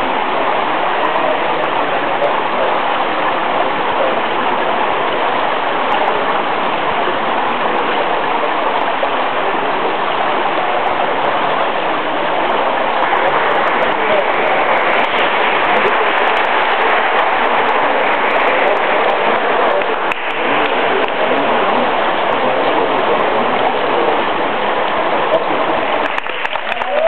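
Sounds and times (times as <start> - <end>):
pool water rushing: 0.0 - 27.0.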